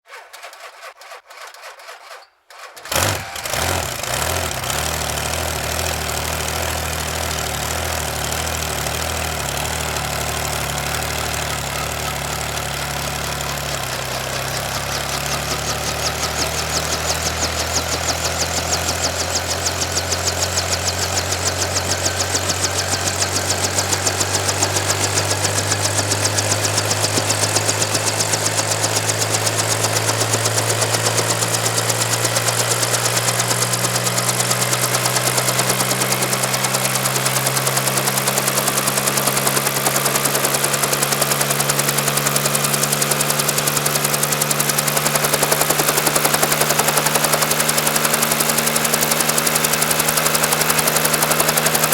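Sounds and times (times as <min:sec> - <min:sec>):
helicopter engine low drone: 0:04.9 - 0:51.9.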